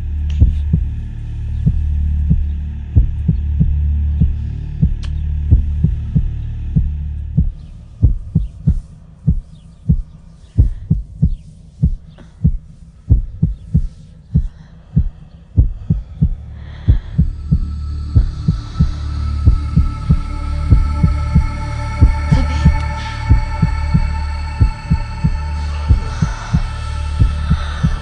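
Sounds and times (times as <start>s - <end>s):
low steady drone: 0.0s - 28.0s.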